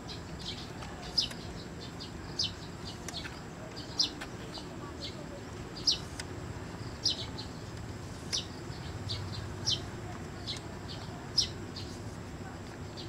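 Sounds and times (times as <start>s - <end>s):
small bird chirping: 0.0s - 12.1s.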